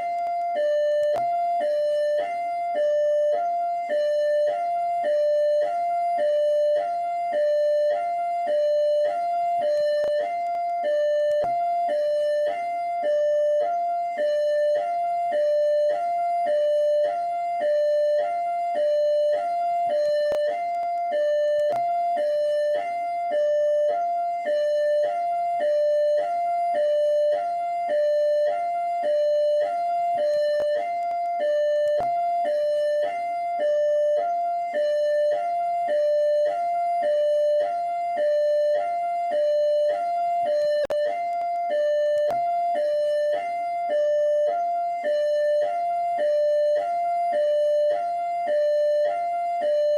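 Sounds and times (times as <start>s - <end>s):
police siren hi-lo: 0.0s - 49.9s.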